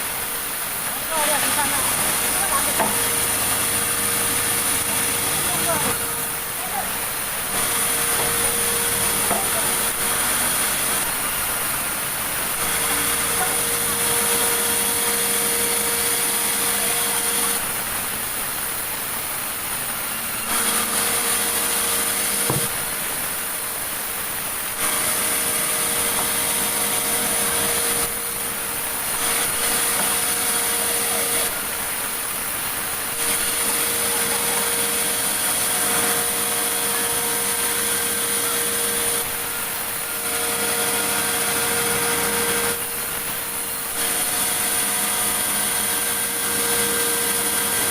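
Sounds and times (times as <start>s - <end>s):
sawmill saw cutting timber: 0.0s - 47.9s.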